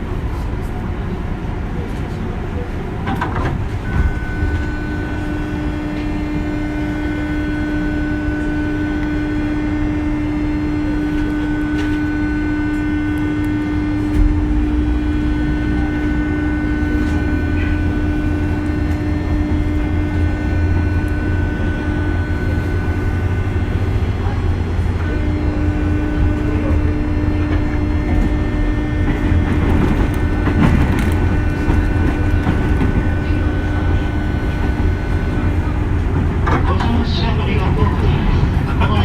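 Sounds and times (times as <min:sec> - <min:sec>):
train wheels rumbling on rails: 0:00.0 - 0:39.0
electric motor control hum: 0:04.0 - 0:36.1.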